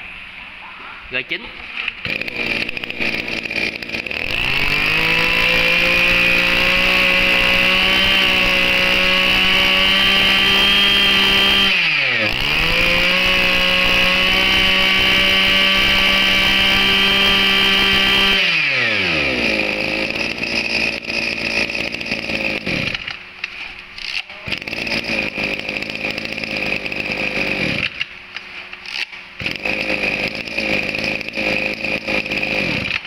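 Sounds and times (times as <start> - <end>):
brush-cutter engine revving and idling: 1.9 - 23.2, 24.0 - 28.1, 28.8 - 33.0.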